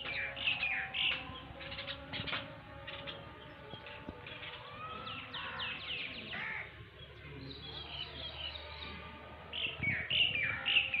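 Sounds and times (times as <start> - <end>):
songbirds chirping and calling: 0.0 - 11.0.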